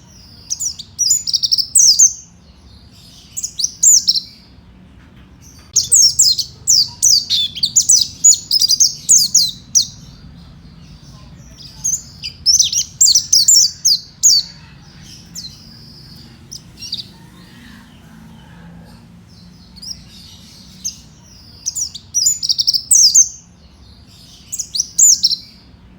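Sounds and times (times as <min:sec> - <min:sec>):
bird high twittering song: 0:00.0 - 0:25.9.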